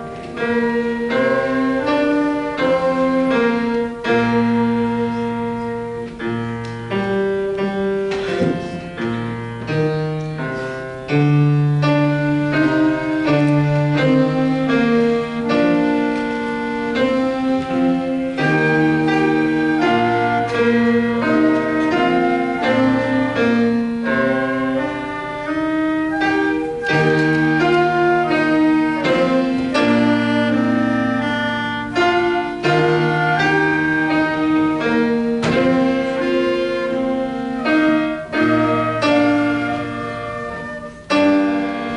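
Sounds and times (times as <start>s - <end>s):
piano accompaniment: 0.0s - 41.9s
school band playing slow piece: 0.0s - 41.9s.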